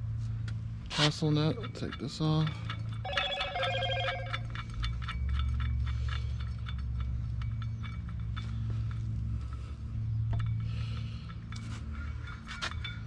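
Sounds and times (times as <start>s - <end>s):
small metal clicks and clinks: 1.4s - 13.0s.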